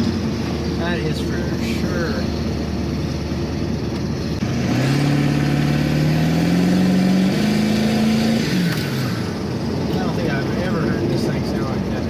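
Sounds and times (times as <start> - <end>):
diesel truck engine accelerating: 0.0 - 12.0.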